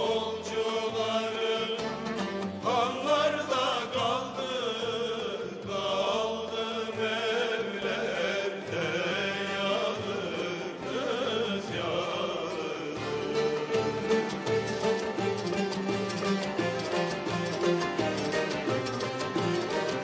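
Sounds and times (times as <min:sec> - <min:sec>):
chanted vocal melody: 0:00.0 - 0:20.0.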